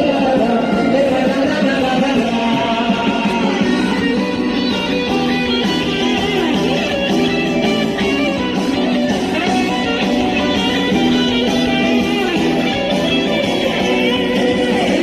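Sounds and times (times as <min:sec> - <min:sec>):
guitar strummed and plucked: 0:00.0 - 0:15.0.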